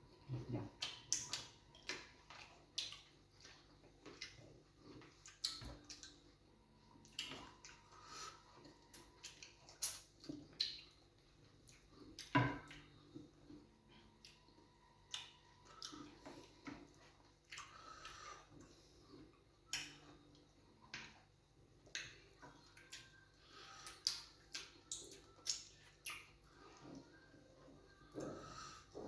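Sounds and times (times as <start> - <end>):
mouth smacks and chewing: 0.3 - 6.4, 7.0 - 21.2, 21.8 - 29.0.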